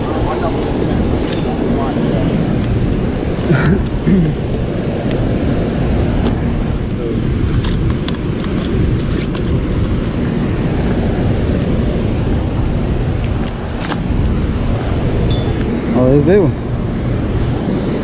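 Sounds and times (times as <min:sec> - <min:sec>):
water roaring over a dam: 0:00.0 - 0:18.0.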